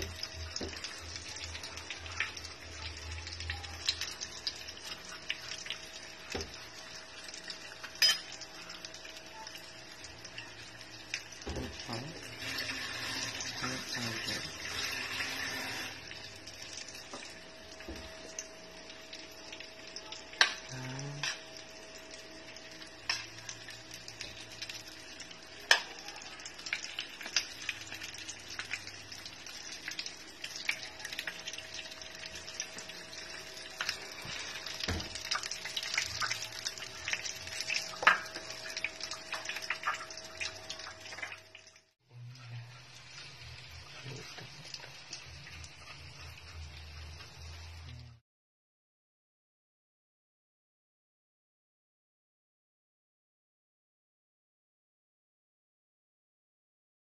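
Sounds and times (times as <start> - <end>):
patties sizzling in oil: 0.0 - 48.2.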